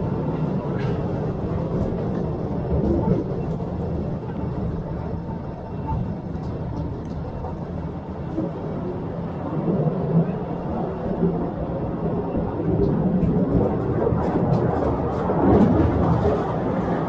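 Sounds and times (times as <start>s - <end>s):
train rumble and rattle: 0.0s - 17.0s.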